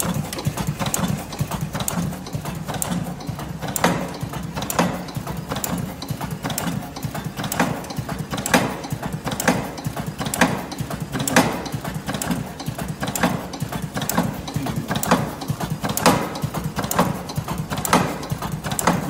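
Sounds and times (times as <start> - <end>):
low mechanical rattle: 0.0 - 19.0
sharp machine clack: 0.0 - 19.0.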